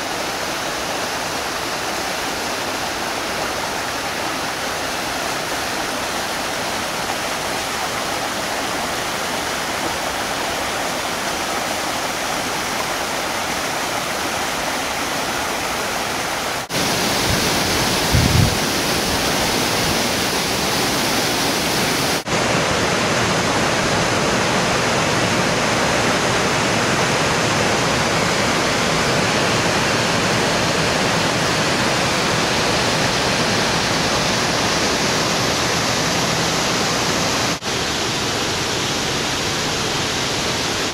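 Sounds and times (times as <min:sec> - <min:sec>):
river and waterfall over rocks: 0:00.0 - 0:40.9.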